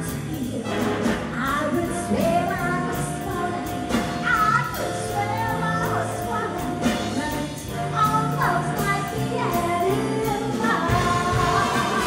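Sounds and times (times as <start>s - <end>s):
big band jazz: 0.0s - 12.0s
woman singing: 0.0s - 12.0s.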